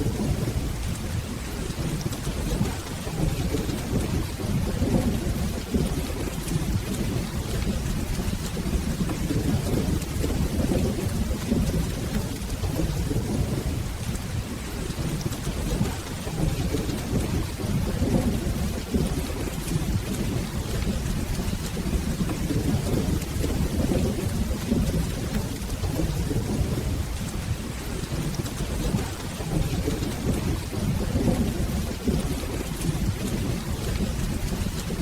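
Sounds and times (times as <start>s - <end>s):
rolling thunder rumble: 0.0s - 35.0s
steady rainfall: 0.0s - 35.0s.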